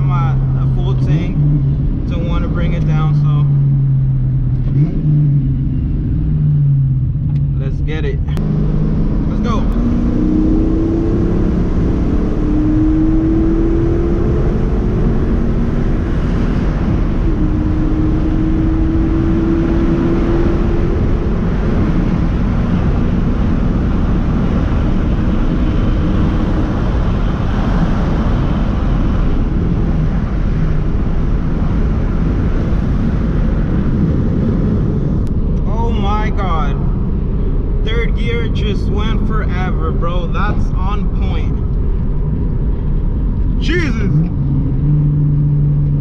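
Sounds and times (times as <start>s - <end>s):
car engine drone: 0.0s - 46.0s
road noise: 0.0s - 46.0s.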